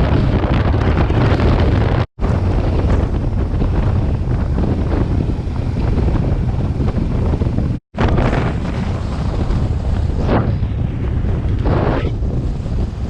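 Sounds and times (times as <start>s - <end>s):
motorcycle rumble: 0.0s - 13.0s
wind buffeting microphone: 0.0s - 13.0s.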